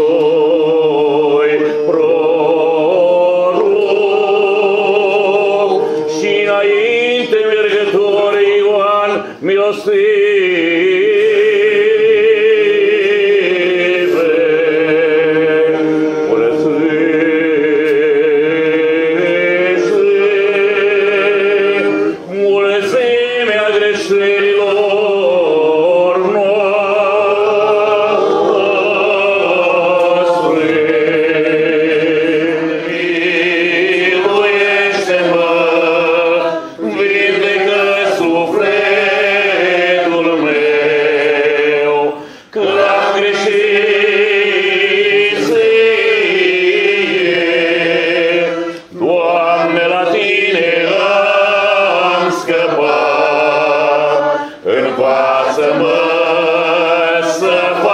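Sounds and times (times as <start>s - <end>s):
men singing liturgical chant: 0.0s - 57.9s.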